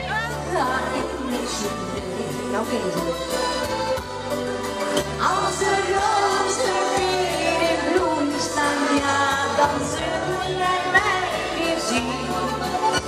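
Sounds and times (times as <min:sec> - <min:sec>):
woman singing into microphone: 0:00.0 - 0:03.8, 0:05.0 - 0:13.0
pop music accompaniment: 0:00.0 - 0:13.0.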